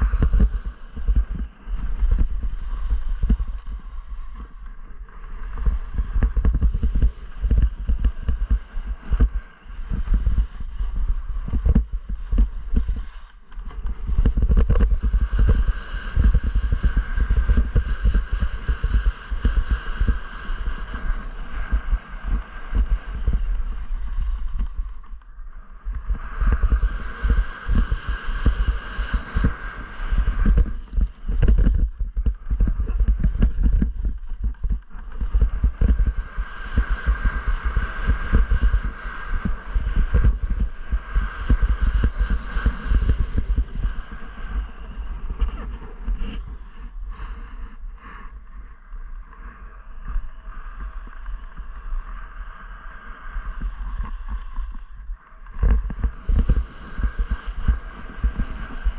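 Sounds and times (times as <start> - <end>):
skis scraping over snow: 0.0 - 21.4, 22.0 - 39.7, 40.3 - 58.8
wind buffeting microphone: 0.0 - 58.9.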